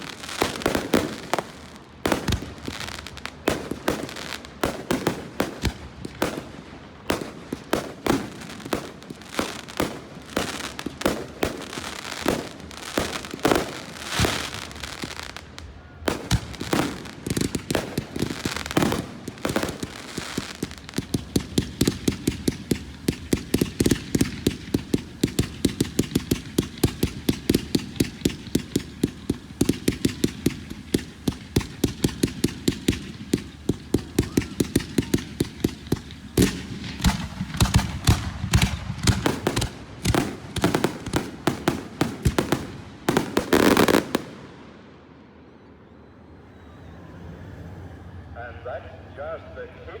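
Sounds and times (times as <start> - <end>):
rapid fireworks bangs: 0.0 - 44.8.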